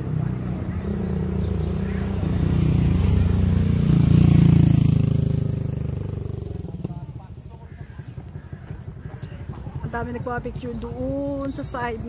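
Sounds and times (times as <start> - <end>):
motorcycle engine passing by: 0.0 - 12.0.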